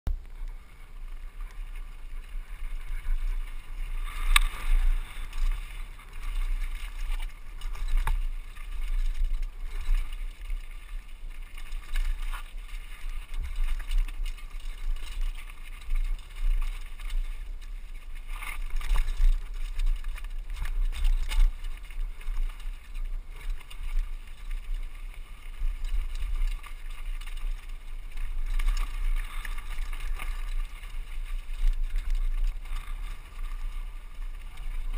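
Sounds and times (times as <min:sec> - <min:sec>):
bike rattling over rocks: 0:00.1 - 0:34.9
wind rumble on microphone: 0:00.1 - 0:34.9.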